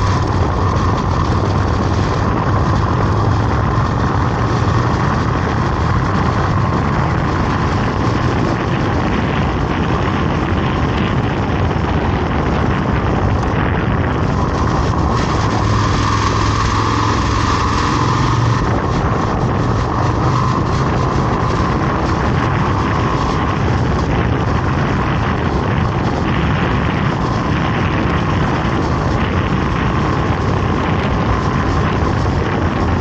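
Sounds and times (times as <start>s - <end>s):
road and wind noise: 0.0s - 33.0s
vehicle engine running: 0.0s - 33.0s.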